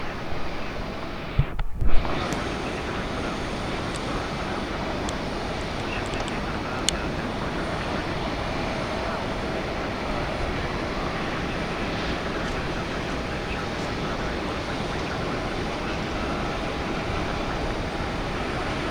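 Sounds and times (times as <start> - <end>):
jet engine roar: 0.0 - 18.9.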